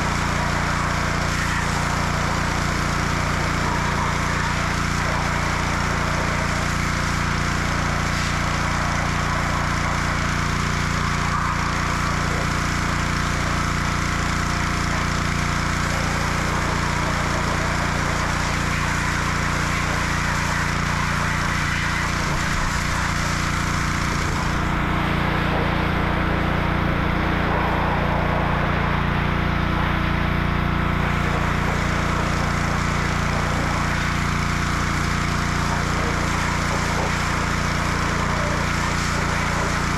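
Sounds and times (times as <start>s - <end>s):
motor droning: 0.0s - 39.9s.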